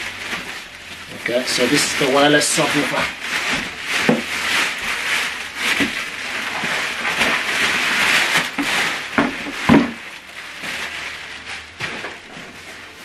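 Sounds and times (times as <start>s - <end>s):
packaging rustling and scraping: 0.0s - 13.0s.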